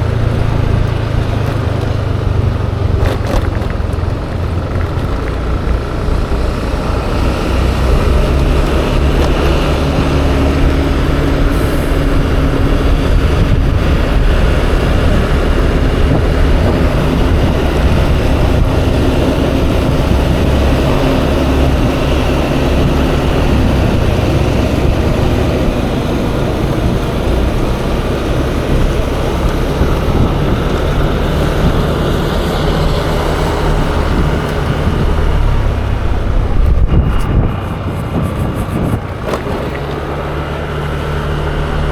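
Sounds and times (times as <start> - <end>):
scooter engine running: 0.0 - 41.9
wind rushing on microphone: 0.0 - 41.9.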